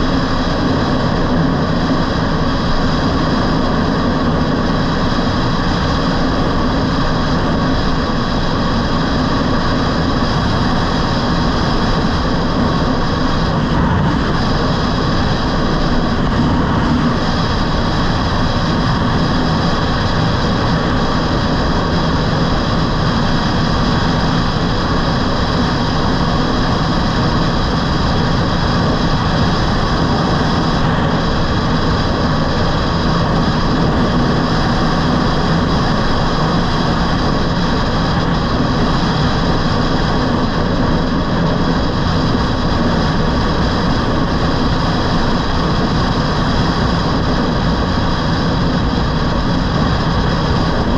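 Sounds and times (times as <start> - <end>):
wind rush on microphone: 0.0 - 50.9.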